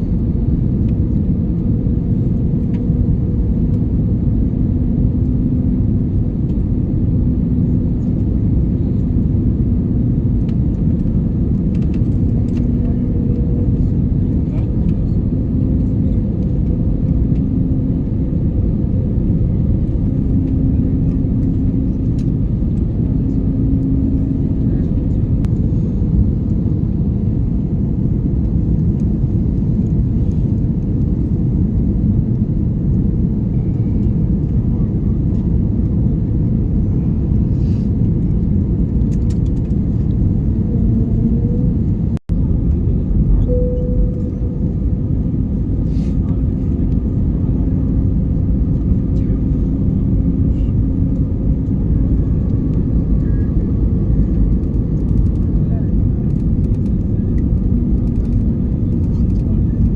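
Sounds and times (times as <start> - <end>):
faint humming tones: 0.0 - 59.9
jet airliner cabin roar: 0.0 - 59.9.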